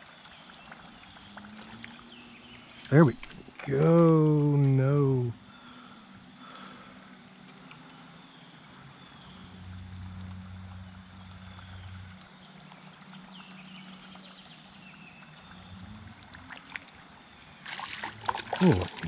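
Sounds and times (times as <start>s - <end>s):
low droning hum: 0.4s - 19.0s.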